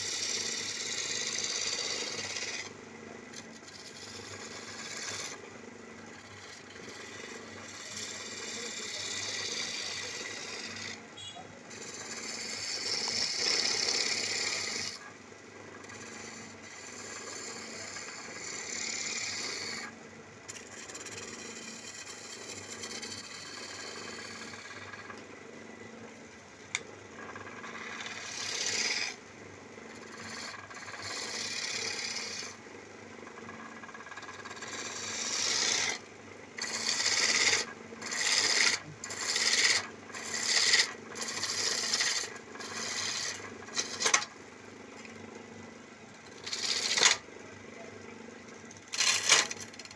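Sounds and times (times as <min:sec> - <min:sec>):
tool scraping spinning wood: 0:00.0 - 0:11.1, 0:11.7 - 0:25.4, 0:26.0 - 0:49.9
faint motor hum: 0:00.0 - 0:49.9.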